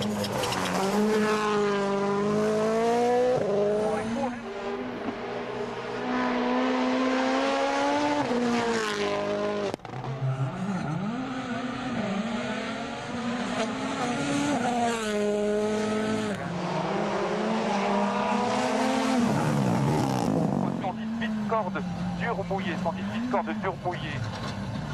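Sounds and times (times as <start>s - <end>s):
rally car engines revving: 0.0s - 24.9s.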